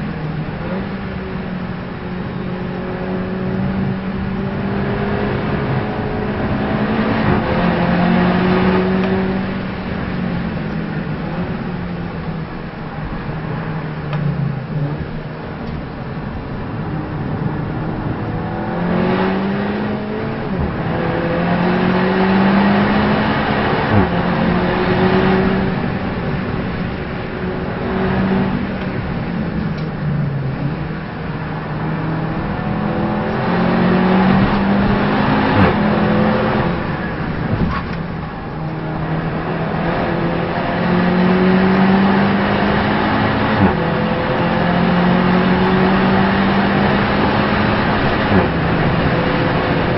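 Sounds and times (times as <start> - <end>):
race car engine accelerating: 0.0 - 49.9
road and wind noise: 0.0 - 49.9.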